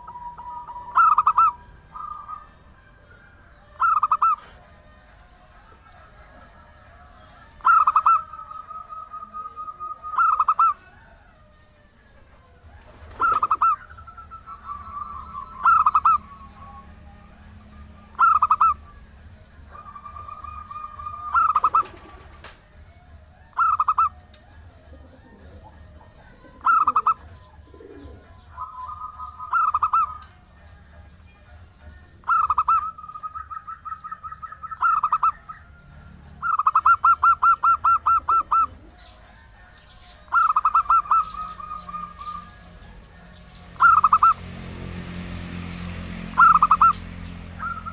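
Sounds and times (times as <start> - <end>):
dove cooing: 0.0 - 43.2, 43.8 - 44.4, 46.4 - 47.0.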